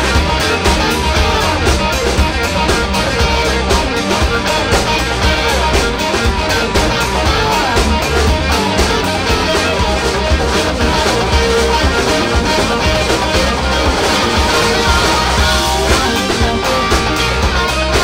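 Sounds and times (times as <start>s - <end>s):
bass guitar: 0.0s - 18.0s
drums: 0.0s - 18.0s
electric guitars: 0.0s - 18.0s.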